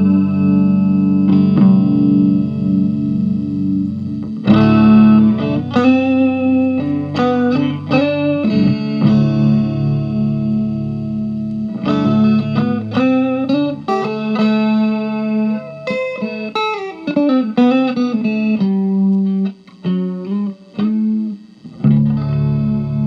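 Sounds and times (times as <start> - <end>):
electric guitar chords and notes: 0.0 - 23.0.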